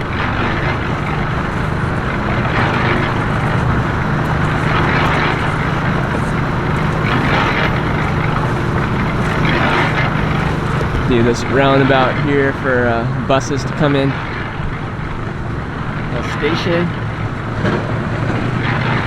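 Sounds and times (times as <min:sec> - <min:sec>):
motor traffic: 0:00.0 - 0:19.0
vehicles passing: 0:00.0 - 0:19.0.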